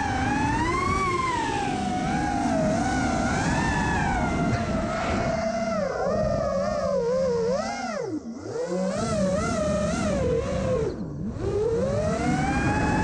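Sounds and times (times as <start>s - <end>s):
model airplane motor whine: 0.0s - 13.0s.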